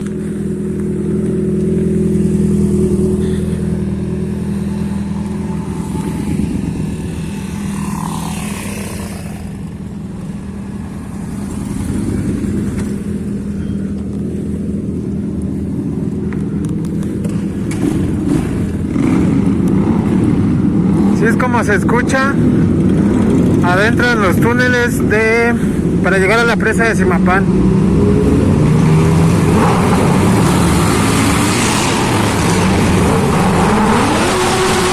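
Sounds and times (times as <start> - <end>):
motorcycle engines in a tunnel: 0.0 - 34.9.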